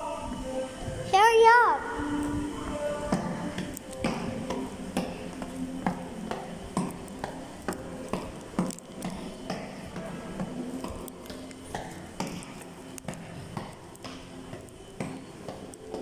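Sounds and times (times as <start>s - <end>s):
steady low hum: 0.0s - 16.0s
footsteps on tiled floor: 2.0s - 16.0s.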